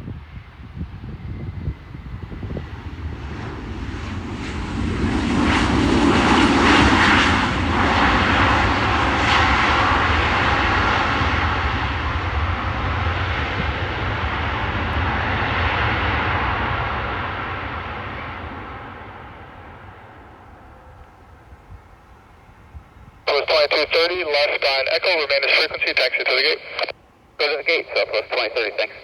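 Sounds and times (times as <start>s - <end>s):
airplane engines roaring: 0.0s - 29.0s.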